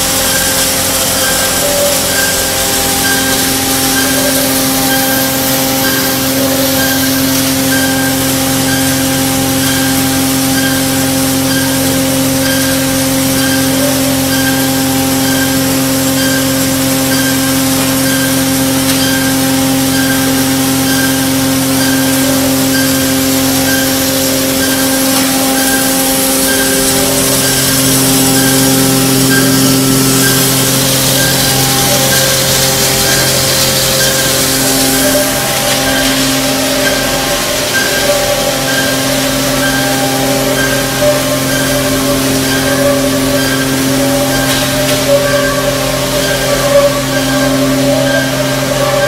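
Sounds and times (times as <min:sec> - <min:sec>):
machinery humming: 0:00.0 - 0:49.0.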